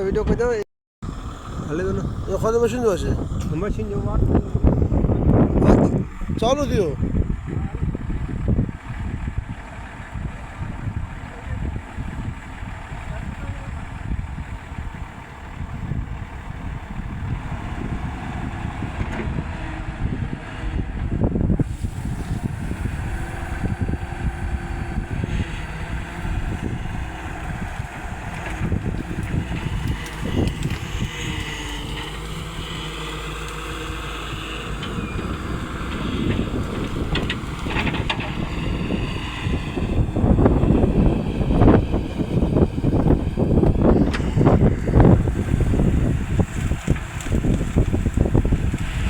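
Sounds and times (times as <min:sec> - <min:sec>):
wind buffeting microphone: 0:00.0 - 0:49.0
excavator diesel engine running: 0:01.0 - 0:49.0.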